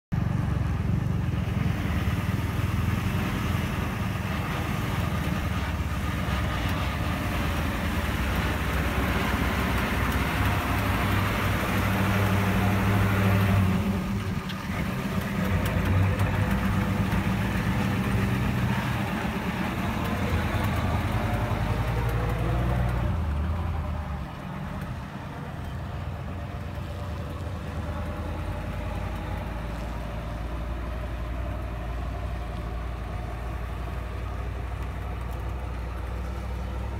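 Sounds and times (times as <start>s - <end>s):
truck engine driving past: 0.1s - 36.9s.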